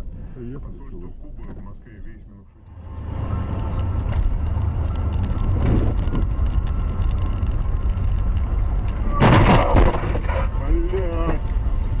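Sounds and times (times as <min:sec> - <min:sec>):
vehicle road rumble: 0:00.0 - 0:12.0.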